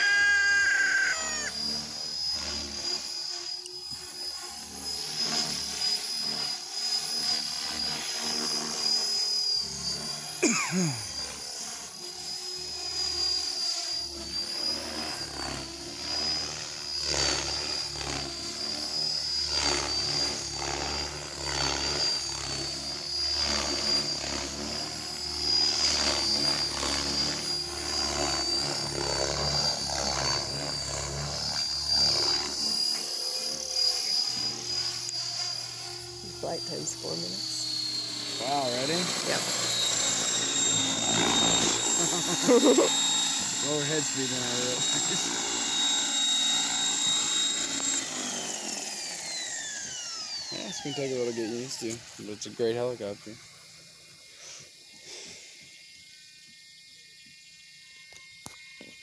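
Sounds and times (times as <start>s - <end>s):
helicopter rotor blades whooshing: 0.0s - 56.6s
steady high whine: 0.0s - 59.0s.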